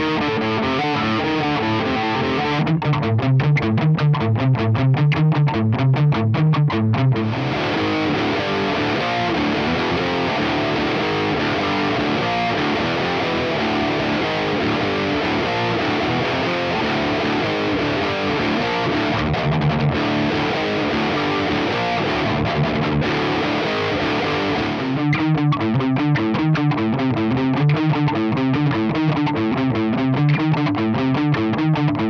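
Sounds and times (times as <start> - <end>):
low guitar chugs: 0.0 - 32.0
overdriven electric guitar: 0.0 - 32.0.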